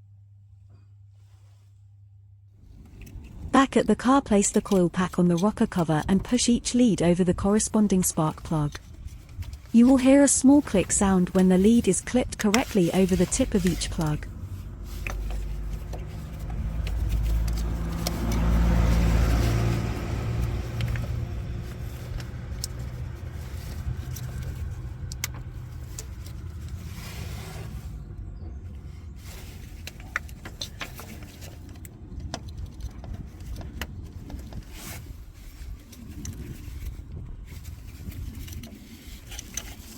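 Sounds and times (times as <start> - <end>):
vehicle low rumble: 0.0 - 39.9.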